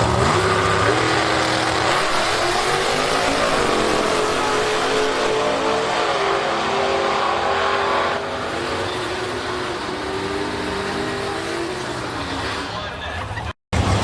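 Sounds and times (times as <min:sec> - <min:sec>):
racing car engine at full throttle: 0:00.0 - 0:14.0.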